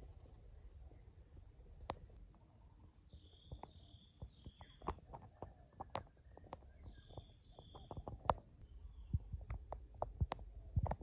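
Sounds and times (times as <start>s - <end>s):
bird chirps: 0.0s - 9.3s.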